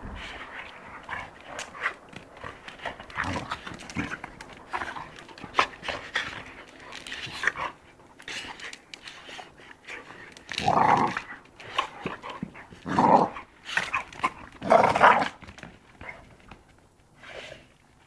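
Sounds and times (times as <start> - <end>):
dogs play-fighting: 0.1 - 18.0.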